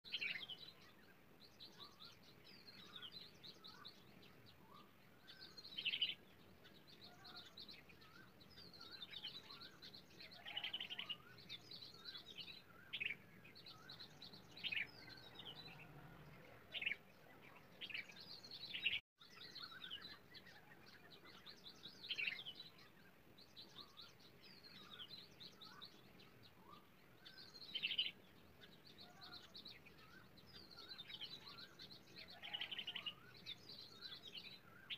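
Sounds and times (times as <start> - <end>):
small birds chirping and trilling: 0.0 - 34.9.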